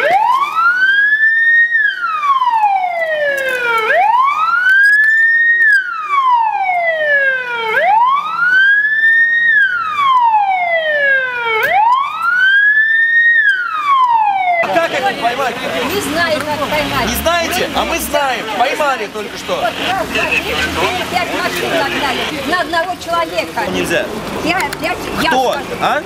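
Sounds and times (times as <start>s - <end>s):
police siren wailing: 0.0s - 23.6s.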